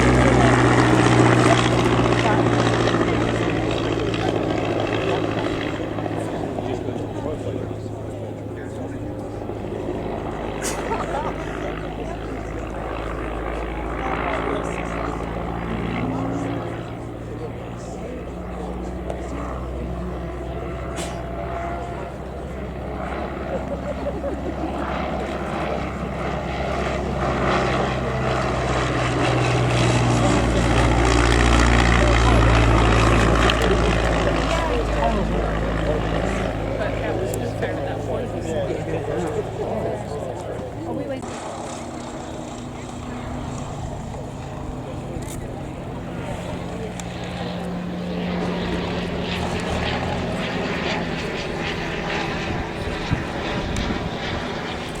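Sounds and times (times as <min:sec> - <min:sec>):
biplane engine and propeller: 0:00.0 - 0:55.0.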